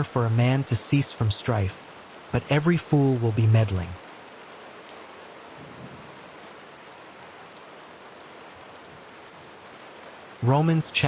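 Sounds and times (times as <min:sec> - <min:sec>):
soft rain hiss: 0:00.0 - 0:11.0.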